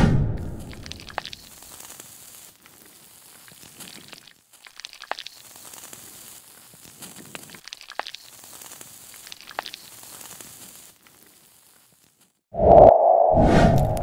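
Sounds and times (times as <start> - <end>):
plastic melting sizzle with crackles: 0.6 - 12.5.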